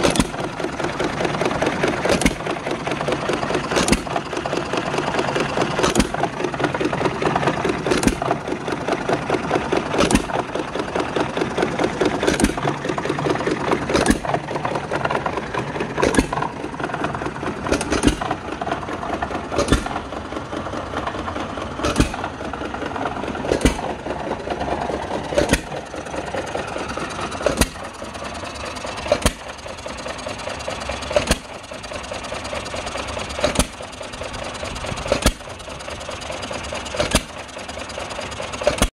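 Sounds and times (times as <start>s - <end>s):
engine firing with sharp bangs: 0.0s - 38.9s
steady mechanical clatter: 0.0s - 38.9s.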